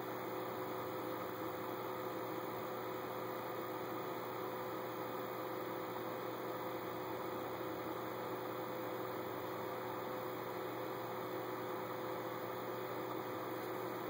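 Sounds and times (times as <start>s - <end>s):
faint two-tone hum: 0.0s - 14.0s.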